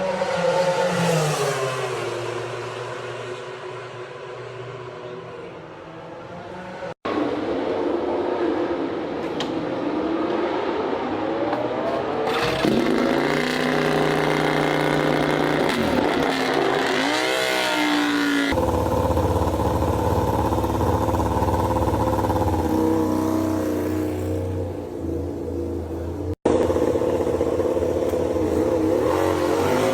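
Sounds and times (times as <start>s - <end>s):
racing motorcycle engines revving: 0.0s - 29.9s.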